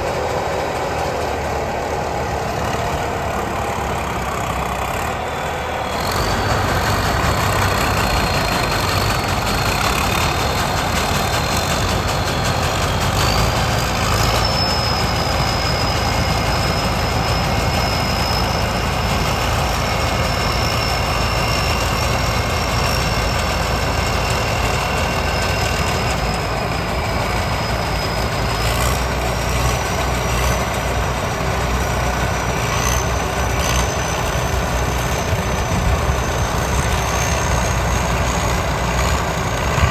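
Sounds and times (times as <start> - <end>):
combine harvester diesel engine: 0.0 - 39.9
high mechanical whine: 0.0 - 39.9.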